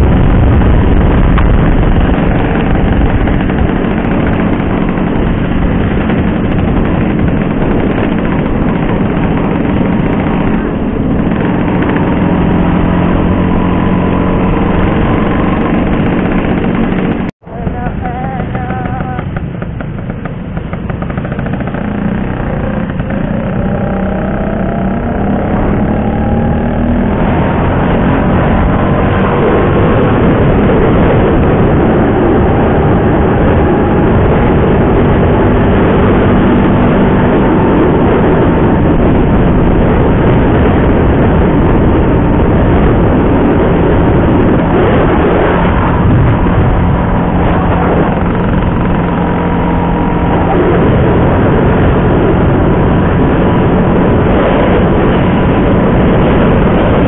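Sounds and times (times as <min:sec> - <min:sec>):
scooter engine accelerating: 0:00.0 - 0:57.0
wind and road noise: 0:00.0 - 0:57.0.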